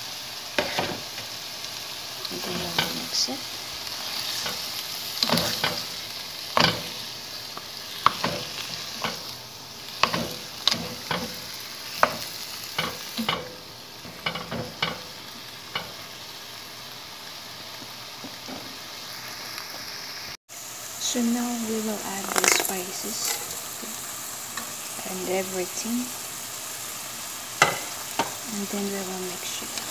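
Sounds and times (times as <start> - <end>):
meat sizzling: 0.0 - 29.9.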